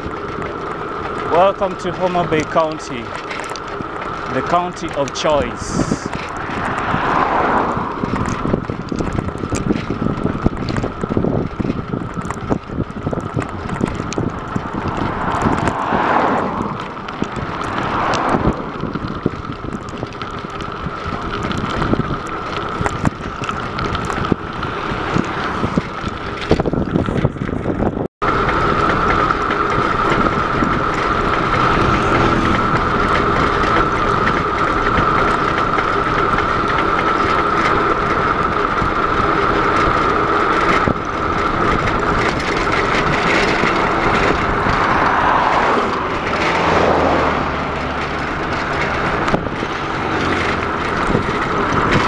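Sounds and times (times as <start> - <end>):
bicycle rattles and knocks: 0.0 - 52.0
wind on microphone: 0.0 - 52.0.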